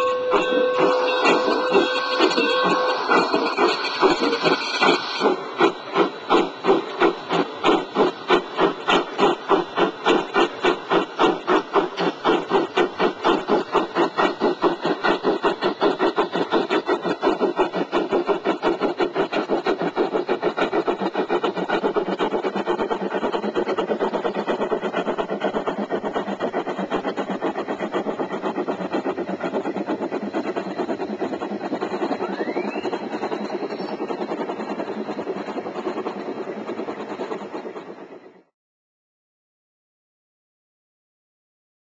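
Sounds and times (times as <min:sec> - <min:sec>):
model locomotive chuffing: 0:00.0 - 0:38.5.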